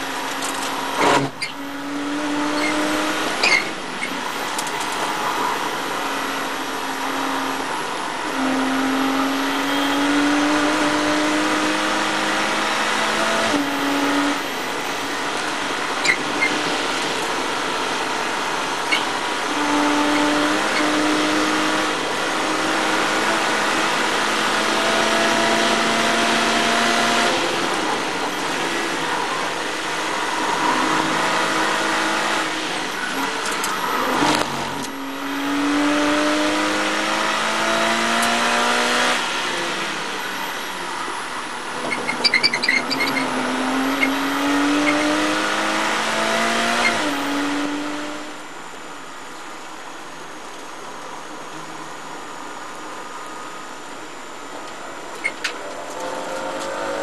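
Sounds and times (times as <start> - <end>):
race car engine at high revs: 0.0 - 57.0
wind and road noise: 0.0 - 57.0.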